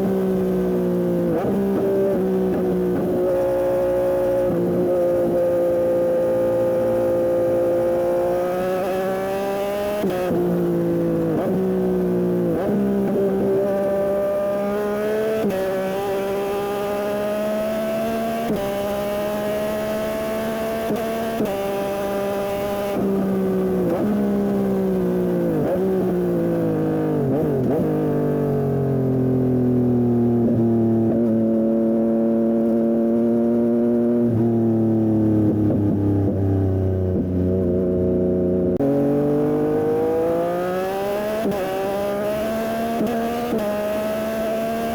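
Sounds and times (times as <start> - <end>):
motorcycle engine revving through gears: 0.0 - 44.9.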